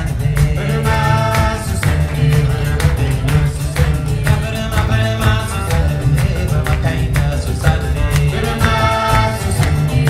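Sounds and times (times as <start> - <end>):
electric bass line: 0.0 - 10.0
man singing: 0.0 - 10.0.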